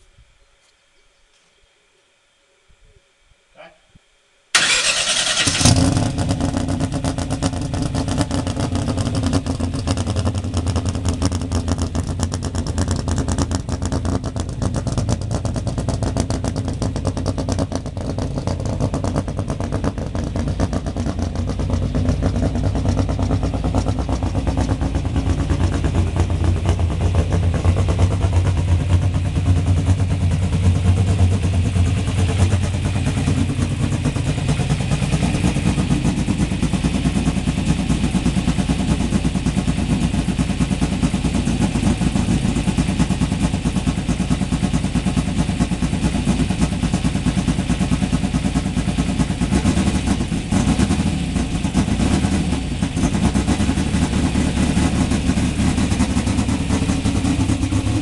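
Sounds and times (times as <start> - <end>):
racing engine running: 4.5 - 58.0.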